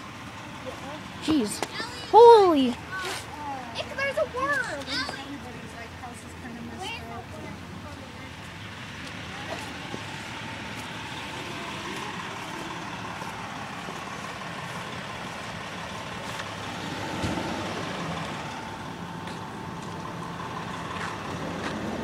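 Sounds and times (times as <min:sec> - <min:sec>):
fire truck engine idling: 0:00.0 - 0:22.0
outdoor noise: 0:00.0 - 0:22.0.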